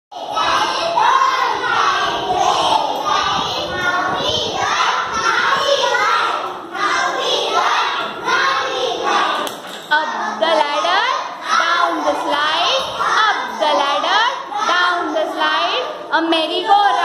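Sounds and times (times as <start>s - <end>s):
children chanting a rhyme: 0.1s - 17.0s.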